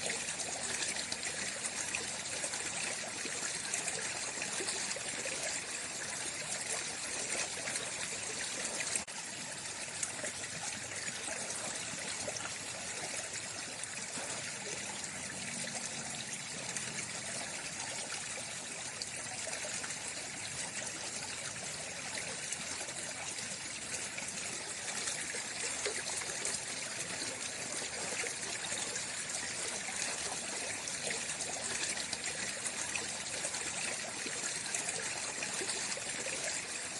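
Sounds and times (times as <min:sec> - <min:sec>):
water trickling and splashing: 0:00.0 - 0:36.9.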